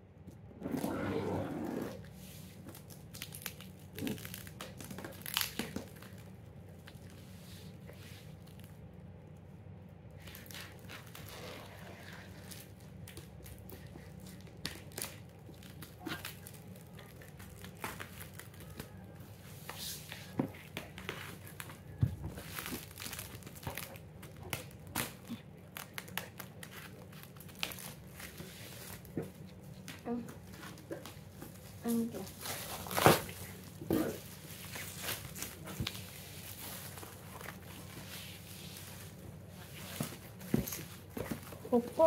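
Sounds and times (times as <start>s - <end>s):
packaging crinkling and tearing: 2.0s - 8.9s, 10.2s - 42.0s.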